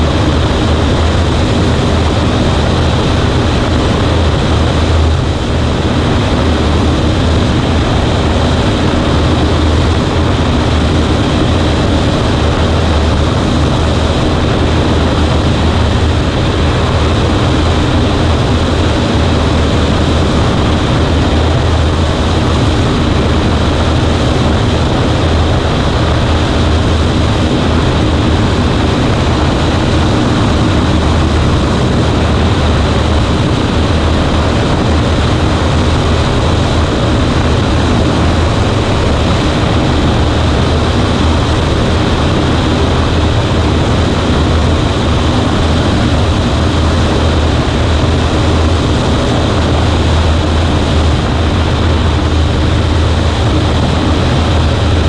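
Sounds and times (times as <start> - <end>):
propeller plane engine drone: 0.0 - 55.0.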